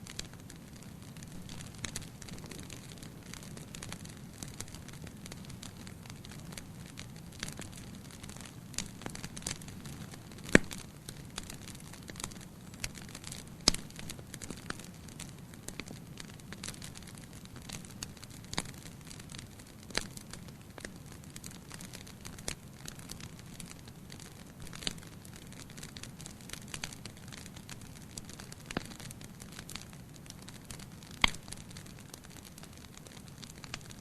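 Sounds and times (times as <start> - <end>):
campfire snaps and pops: 0.0 - 34.0.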